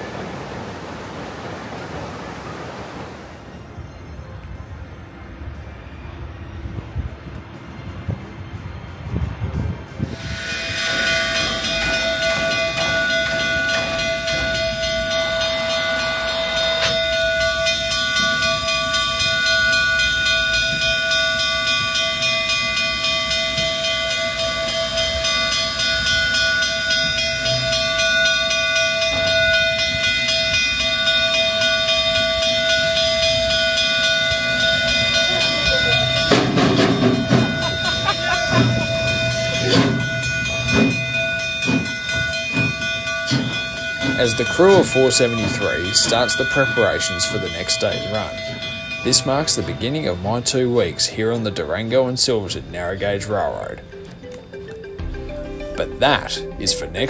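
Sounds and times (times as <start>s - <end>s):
steam locomotive hissing: 0.0s - 4.2s, 7.6s - 54.0s
steady high tone: 10.1s - 57.0s.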